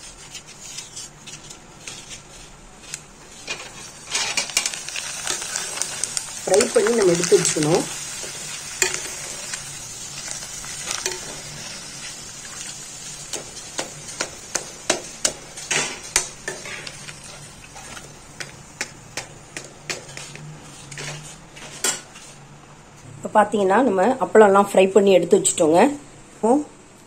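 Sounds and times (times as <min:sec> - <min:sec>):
metal spoon scraping a pan: 0:00.0 - 0:22.4
papadums sizzling in hot oil: 0:00.0 - 0:22.4.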